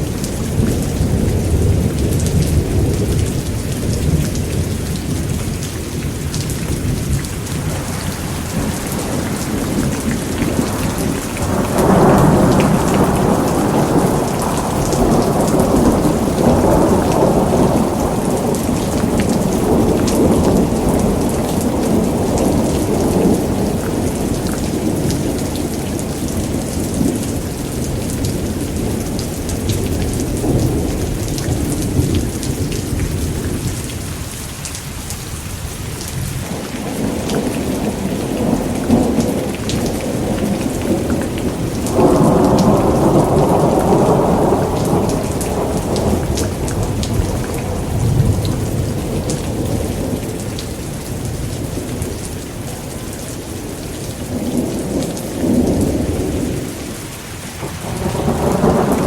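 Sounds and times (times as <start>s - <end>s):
thunder rumbling and rolling: 0.0s - 34.3s, 35.6s - 59.0s
steady rain: 0.0s - 59.0s.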